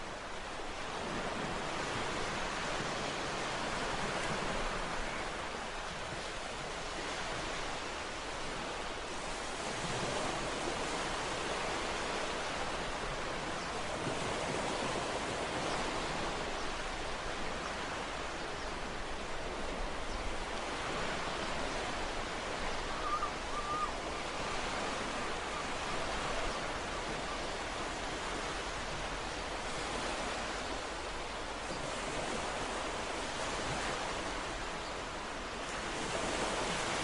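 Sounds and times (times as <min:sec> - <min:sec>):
ocean surf on shore: 0:00.0 - 0:37.0.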